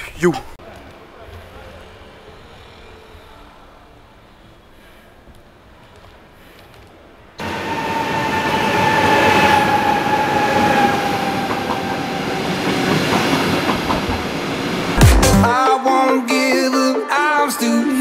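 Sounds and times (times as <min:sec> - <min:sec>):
train pulling in: 0:01.0 - 0:17.4.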